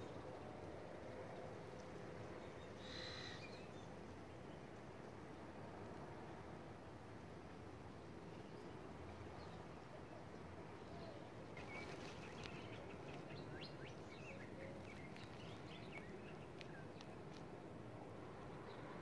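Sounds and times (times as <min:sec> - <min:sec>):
faint birds chirping: 0:00.0 - 0:07.0, 0:07.7 - 0:19.0
outdoor ambience hiss: 0:00.0 - 0:19.0.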